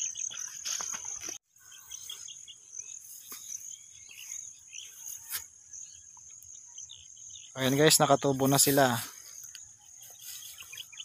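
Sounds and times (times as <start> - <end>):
faint chirps: 0.0 - 11.0
insects trilling: 0.0 - 11.0.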